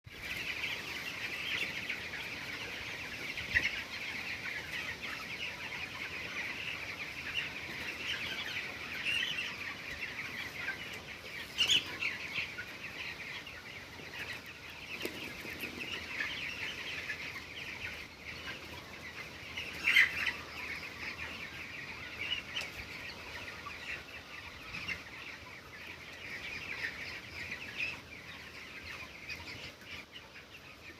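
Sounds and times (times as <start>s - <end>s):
chicks peeping: 0.1s - 30.9s.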